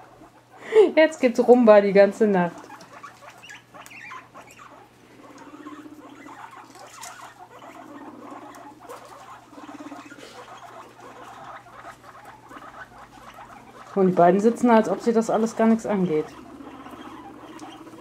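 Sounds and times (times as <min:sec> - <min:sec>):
guinea pig rumbling: 0:00.0 - 0:18.0.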